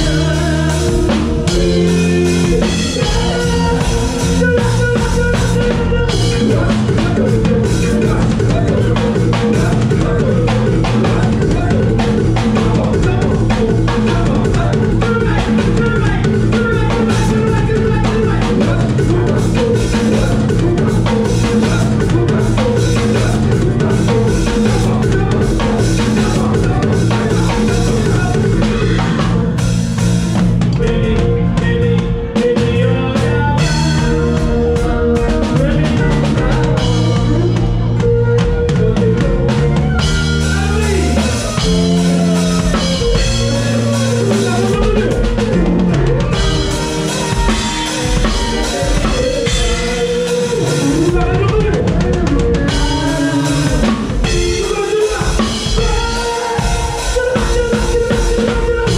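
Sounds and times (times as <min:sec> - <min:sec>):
bass line: 0:00.0 - 0:58.9
live band music: 0:00.0 - 0:58.9.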